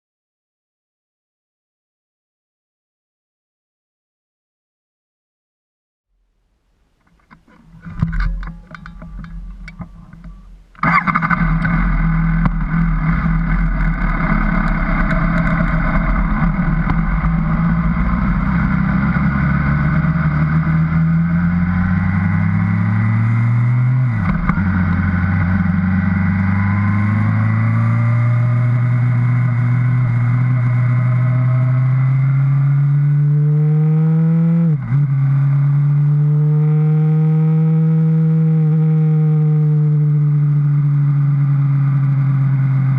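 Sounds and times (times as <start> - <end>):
motorcycle engine accelerating: 7.2 - 42.9.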